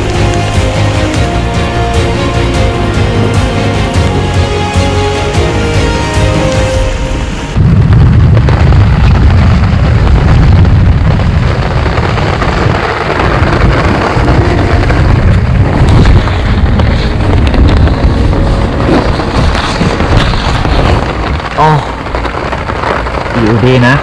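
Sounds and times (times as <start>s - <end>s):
heavy rain hissing: 0.0s - 24.0s
storm wind gusting: 0.0s - 24.0s.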